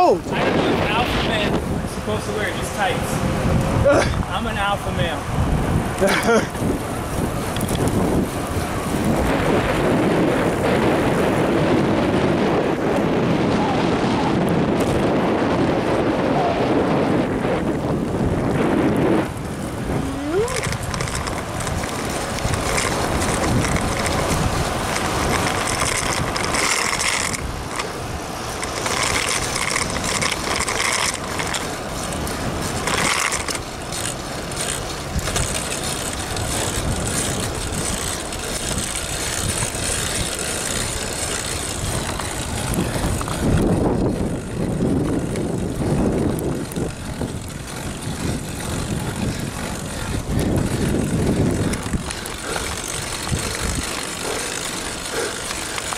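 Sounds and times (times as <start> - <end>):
bicycle riding noise: 0.0 - 55.9
freewheel hub clicking: 5.8 - 16.0, 16.8 - 55.9.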